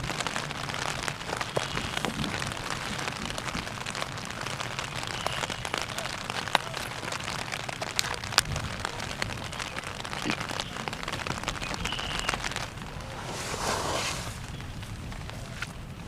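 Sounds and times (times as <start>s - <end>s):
steady rain pattering: 0.0s - 16.0s.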